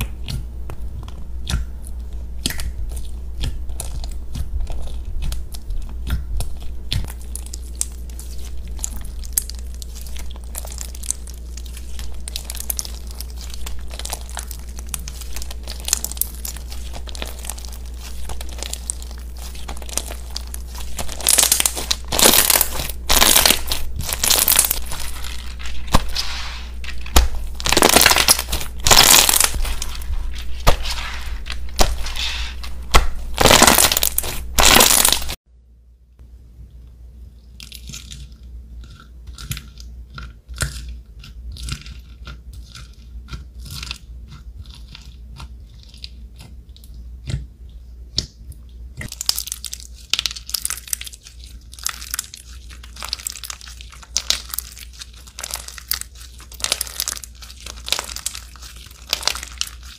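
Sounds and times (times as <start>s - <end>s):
wet slime squelches: 0.0s - 35.4s, 37.3s - 59.9s.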